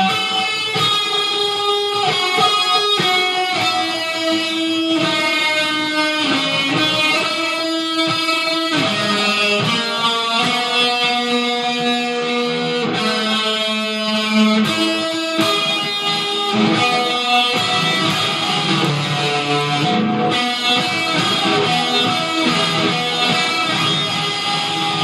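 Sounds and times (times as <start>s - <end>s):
electric guitar held notes: 0.0s - 25.0s.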